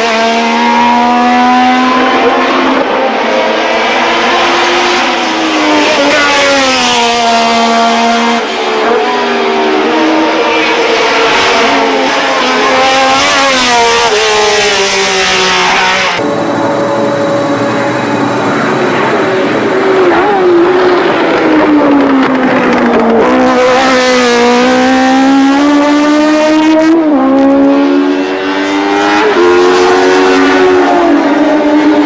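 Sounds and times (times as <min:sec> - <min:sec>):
racing car engines at speed: 0:00.0 - 0:32.0.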